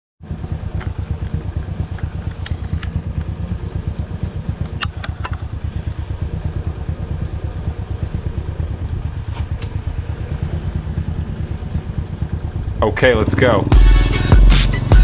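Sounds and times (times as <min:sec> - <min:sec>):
motorcycle engine running: 0:00.2 - 0:15.0.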